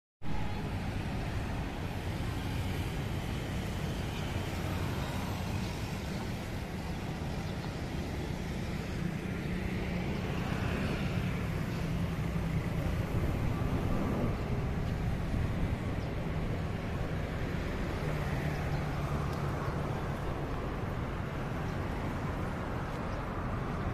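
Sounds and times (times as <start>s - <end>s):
road traffic passing: 0.2s - 23.9s.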